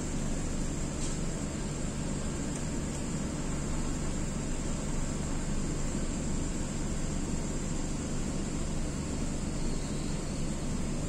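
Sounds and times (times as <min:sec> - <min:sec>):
air conditioning hiss: 0:00.0 - 0:11.0
constant low hum: 0:00.0 - 0:11.0.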